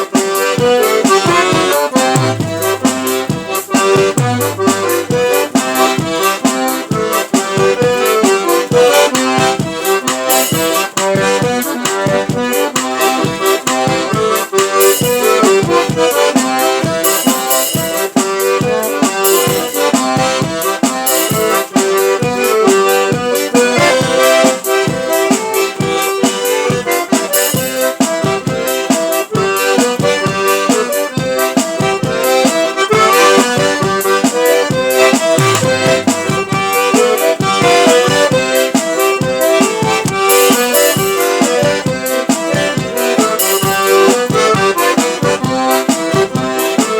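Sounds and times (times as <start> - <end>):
accordion playing folk tune: 0.0 - 46.9.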